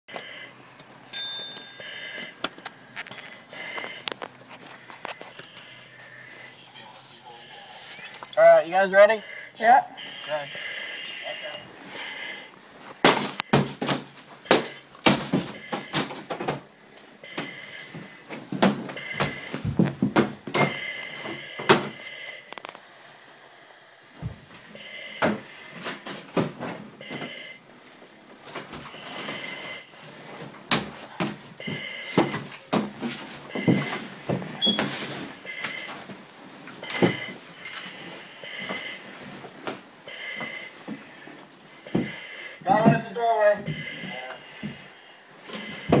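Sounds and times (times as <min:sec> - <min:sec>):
breathing regulator hiss: 0:00.1 - 0:01.0, 0:01.8 - 0:46.0.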